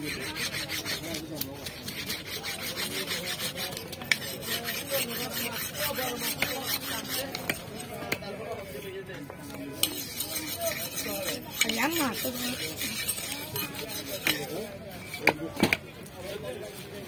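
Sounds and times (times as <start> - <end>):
knife scraping fish scales: 0.0 - 8.2, 9.6 - 15.8.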